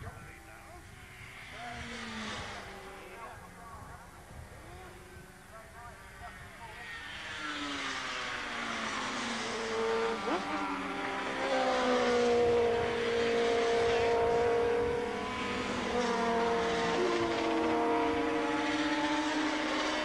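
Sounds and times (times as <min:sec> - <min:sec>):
racing motorcycles approaching: 0:00.0 - 0:20.0.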